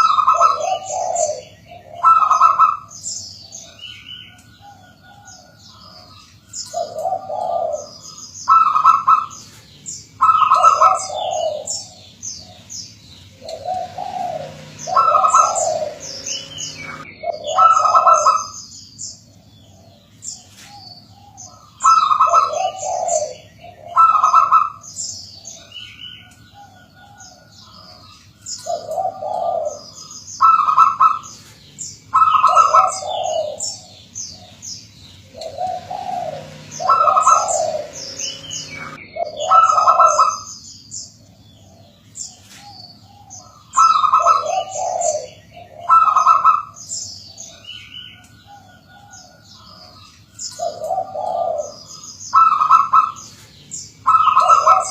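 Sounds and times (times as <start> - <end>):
dove cooing: 0.0 - 18.6, 19.2 - 40.6, 41.3 - 54.9
small birds chirping: 0.0 - 54.9.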